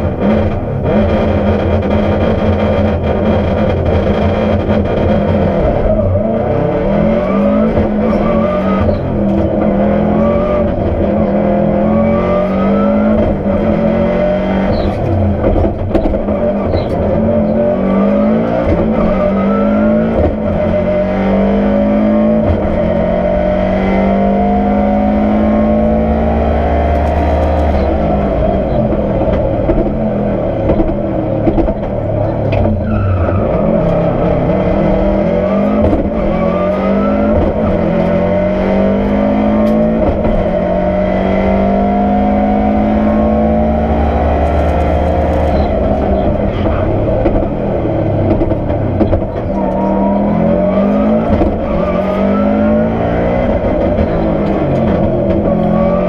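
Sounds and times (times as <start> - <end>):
rally car engine accelerating: 0.0 - 56.0.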